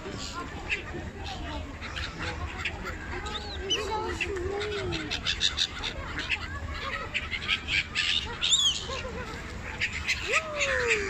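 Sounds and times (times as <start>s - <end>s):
water birds calling: 0.0s - 11.0s.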